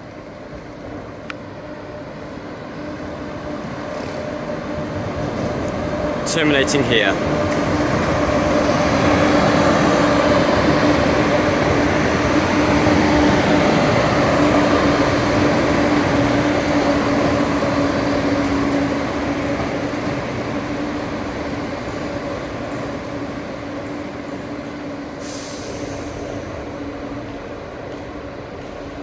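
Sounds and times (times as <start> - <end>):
diesel train engine humming: 0.0 - 29.0.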